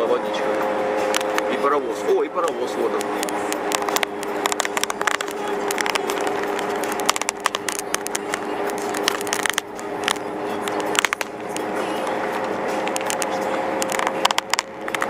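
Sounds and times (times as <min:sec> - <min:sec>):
car cabin drone: 0:00.0 - 0:15.0
short crackles and clicks: 0:01.1 - 0:01.6, 0:02.4 - 0:15.0.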